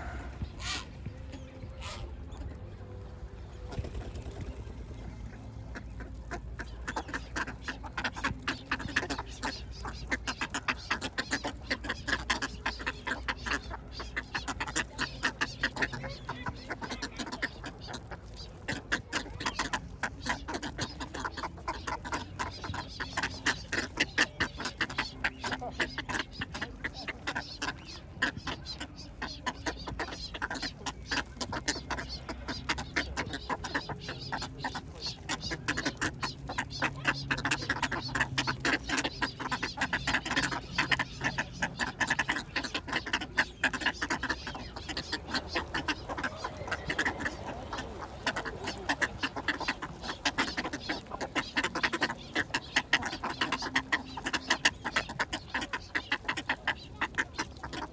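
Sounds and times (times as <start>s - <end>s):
ducks quacking: 0.0s - 57.9s.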